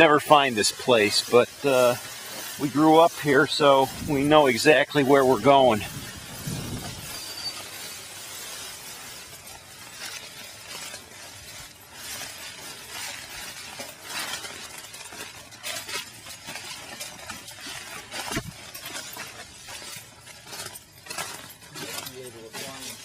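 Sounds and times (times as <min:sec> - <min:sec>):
footsteps crunching through grass: 0:00.0 - 0:23.0.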